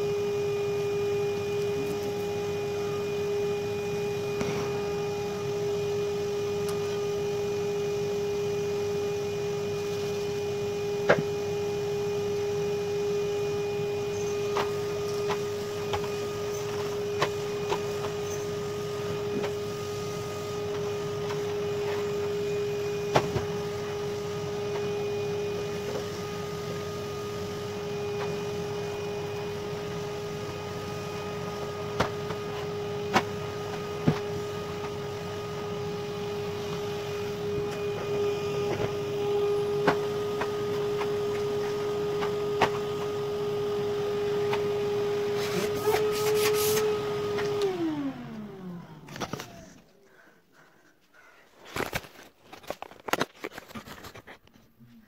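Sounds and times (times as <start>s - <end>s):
vacuum cleaner motor whining: 0.0s - 50.3s.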